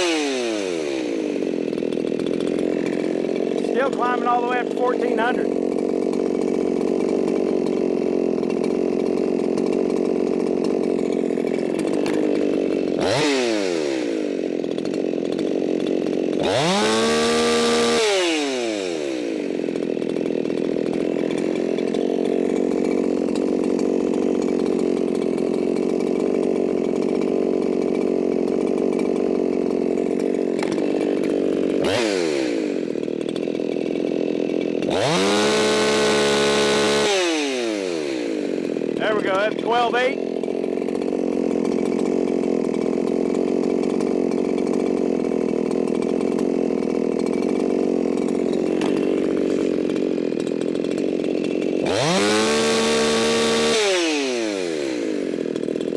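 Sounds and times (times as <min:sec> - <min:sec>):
two-stroke chainsaw engine revving: 0:00.0 - 0:55.9.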